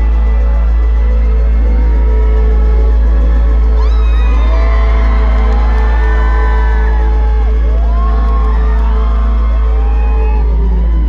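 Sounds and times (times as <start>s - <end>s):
audience whooping and cheering: 0.0s - 11.0s.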